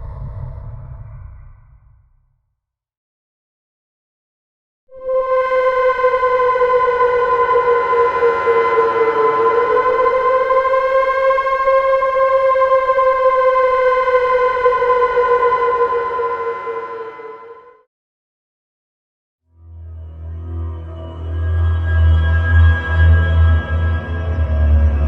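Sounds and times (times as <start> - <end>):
siren-like horror tone: 0.0 - 2.2, 4.9 - 17.9, 19.8 - 25.0.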